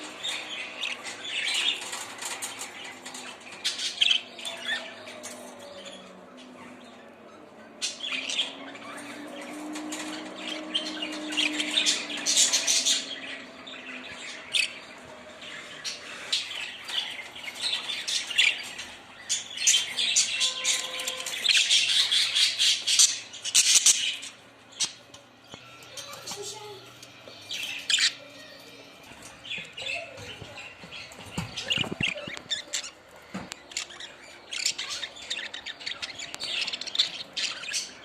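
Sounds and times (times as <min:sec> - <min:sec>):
budgerigars chirping and squawking: 0:00.0 - 0:38.0.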